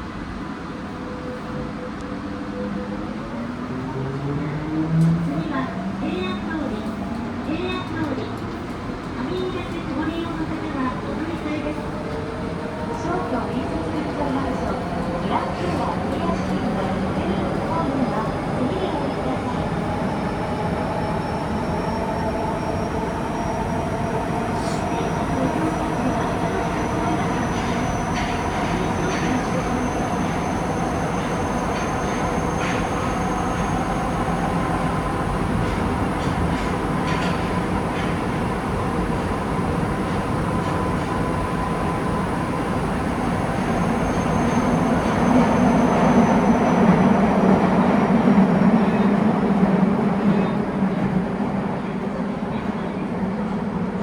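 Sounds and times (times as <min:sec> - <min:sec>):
subway wheels and motors rumbling: 0:00.0 - 0:54.0.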